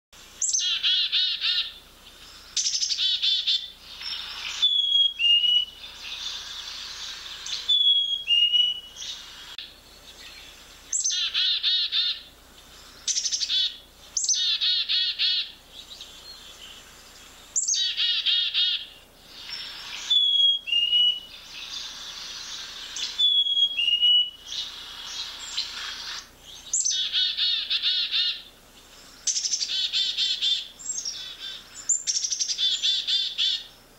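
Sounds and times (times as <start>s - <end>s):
chickadees calling buzzy notes: 0.4s - 33.8s.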